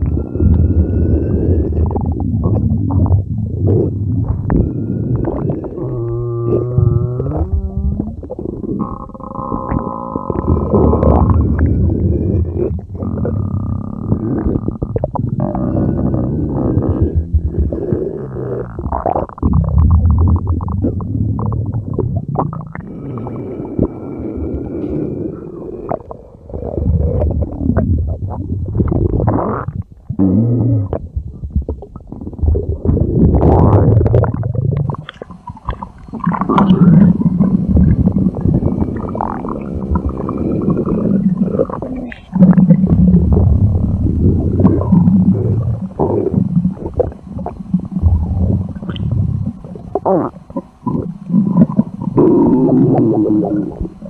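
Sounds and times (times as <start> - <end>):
stomach growling: 0.0 - 54.0
stomach gurgling: 0.0 - 54.0.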